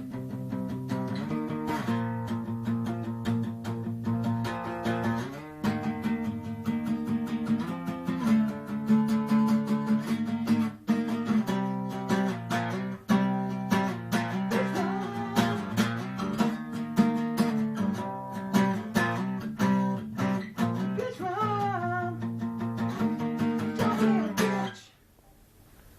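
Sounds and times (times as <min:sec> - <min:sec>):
acoustic guitar strummed with band: 0:00.0 - 0:24.9.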